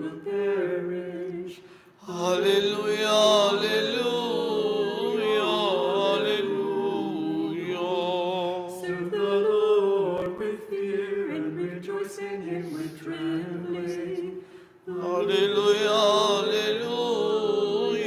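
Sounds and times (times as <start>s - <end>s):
unaccompanied choir chanting: 0.0s - 18.0s.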